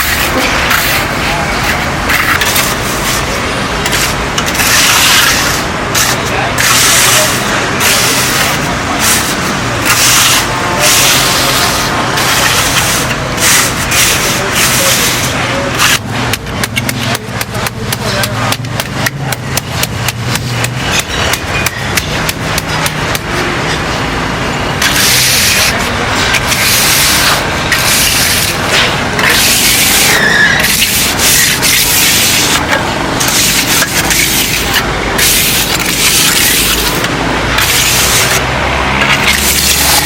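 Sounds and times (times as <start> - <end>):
hand tool scraping concrete: 0.0 - 23.8, 24.8 - 40.0.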